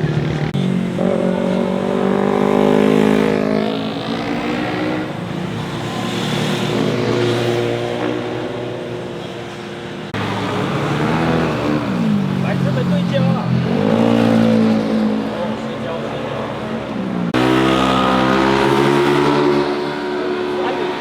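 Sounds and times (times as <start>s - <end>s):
motorcycle engines passing: 0.0s - 21.0s.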